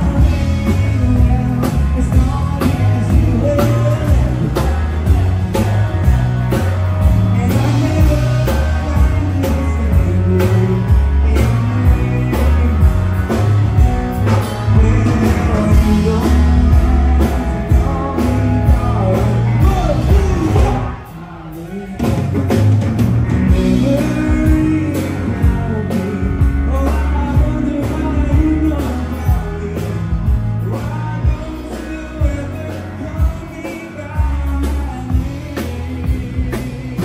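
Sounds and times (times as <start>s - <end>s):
heavy pulsing bass: 0.0s - 21.0s, 22.1s - 37.0s
person singing: 0.0s - 22.8s, 23.4s - 37.0s
rock band playing: 0.0s - 37.0s.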